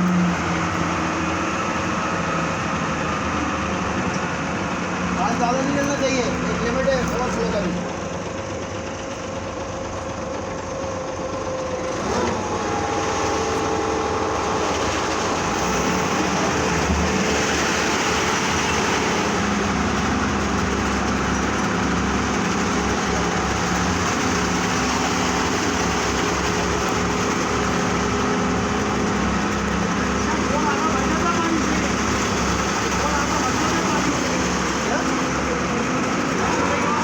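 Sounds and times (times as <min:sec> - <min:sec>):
construction machinery engine running: 0:00.0 - 0:37.0.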